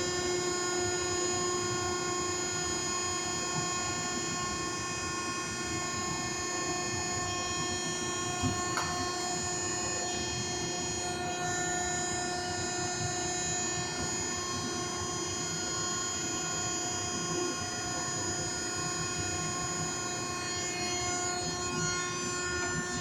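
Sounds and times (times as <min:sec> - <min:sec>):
hydraulic power unit humming: 0:00.0 - 0:23.0.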